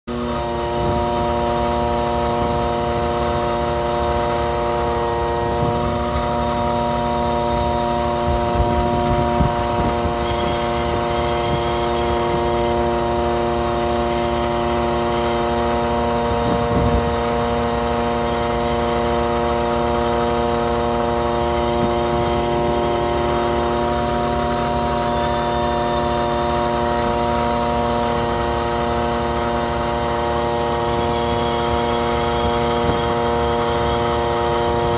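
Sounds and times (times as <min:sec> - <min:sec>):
ship machinery droning: 0:00.1 - 0:34.9.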